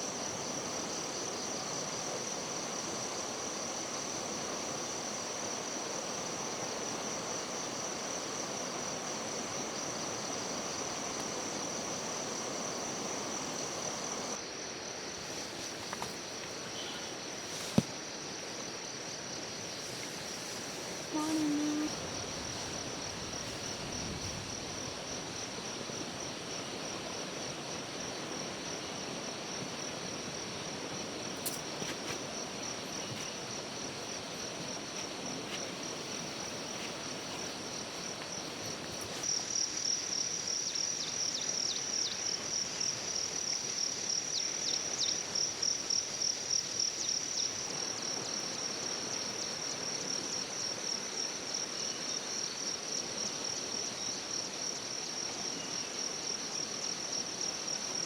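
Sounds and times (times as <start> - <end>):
insects trilling: 0.0 - 58.0
soft outdoor hiss: 0.0 - 58.0.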